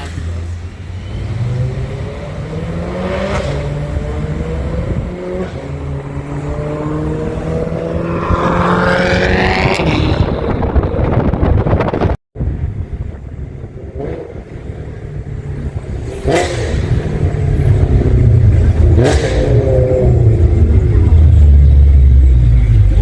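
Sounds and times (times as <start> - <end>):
car engine revving: 1.0 - 12.0, 13.6 - 23.0.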